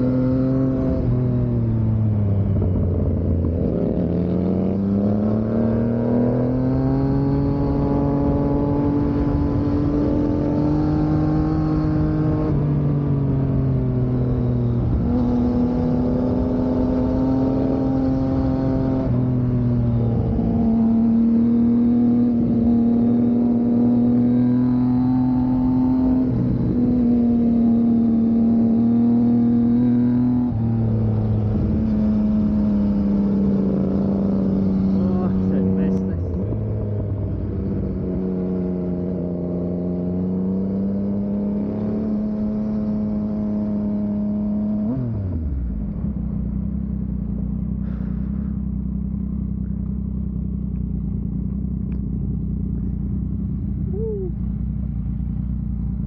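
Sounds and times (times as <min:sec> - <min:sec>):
motorcycle engine under throttle: 0:00.0 - 0:56.0.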